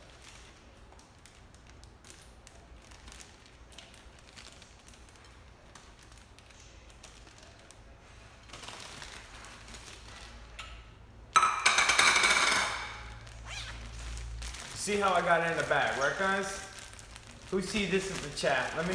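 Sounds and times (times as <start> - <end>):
plastic bag rustling and crinkling: 0.0 - 10.6, 13.0 - 18.9.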